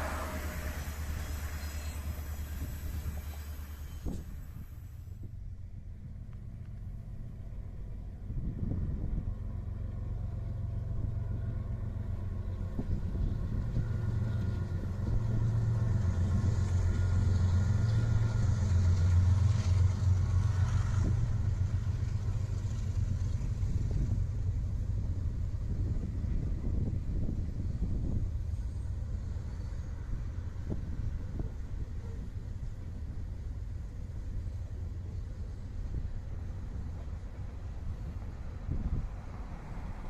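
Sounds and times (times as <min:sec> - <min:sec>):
freight train crossing a bridge: 0:00.0 - 0:40.0.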